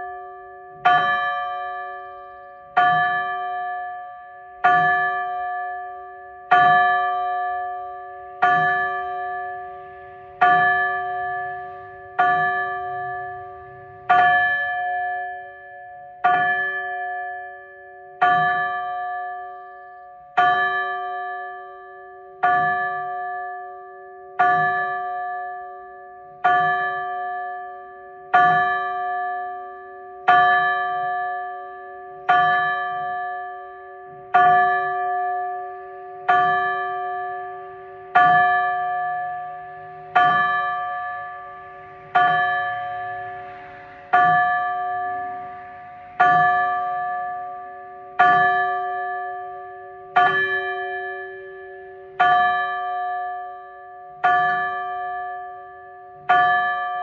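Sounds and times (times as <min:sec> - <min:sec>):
church bell tolling: 0:00.0 - 0:57.0.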